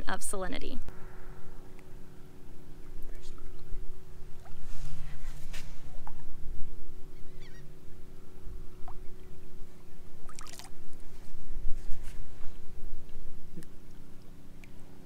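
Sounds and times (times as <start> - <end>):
steady low hum: 0.0 - 15.0
wind rumbling on microphone: 0.8 - 14.2.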